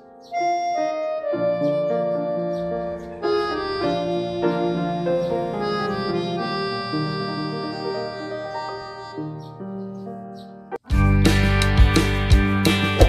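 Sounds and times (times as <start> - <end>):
keyboard melody of held notes: 0.0 - 11.8.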